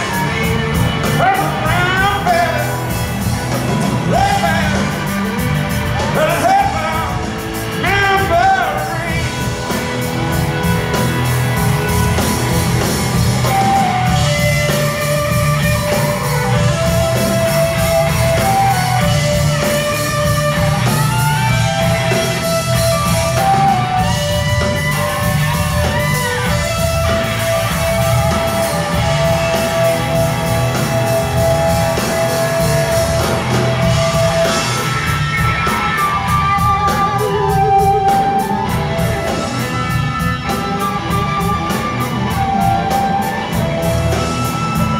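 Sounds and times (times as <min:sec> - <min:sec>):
electric guitar lead: 0:00.0 - 0:44.9
live rock music: 0:00.0 - 0:44.9.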